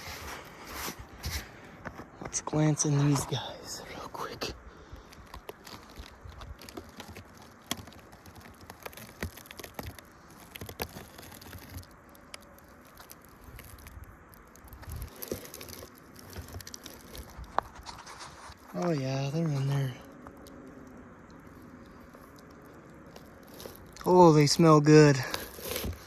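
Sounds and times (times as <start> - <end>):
beehive knocks and crunches: 0.4 - 24.1, 25.2 - 26.0.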